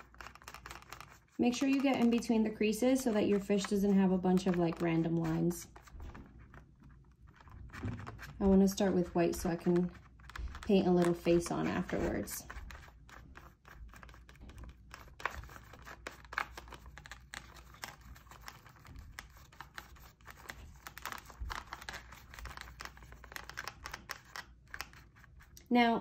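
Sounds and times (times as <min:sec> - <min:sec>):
paintbrush on plastic: 0:00.0 - 0:26.0.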